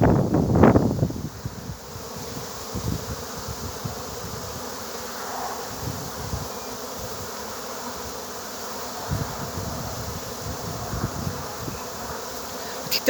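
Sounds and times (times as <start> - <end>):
bees buzzing: 0.7 - 13.0.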